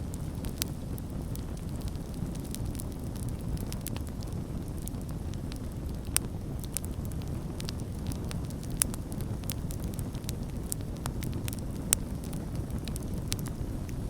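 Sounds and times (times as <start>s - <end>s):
burning wood crackling and popping: 0.0s - 14.0s
campfire flames rumbling: 0.0s - 14.0s.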